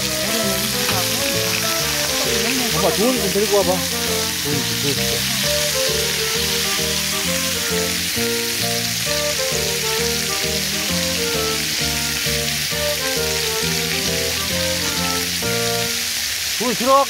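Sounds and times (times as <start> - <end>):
background music: 0.0 - 16.2
pork sizzling on a griddle: 0.0 - 17.0.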